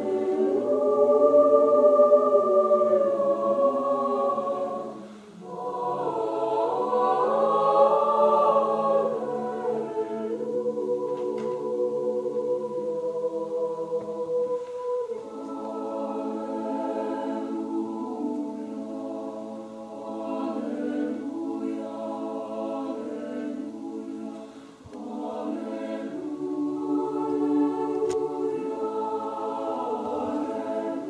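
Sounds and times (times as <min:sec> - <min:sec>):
choir singing held chords: 0:00.0 - 0:31.0.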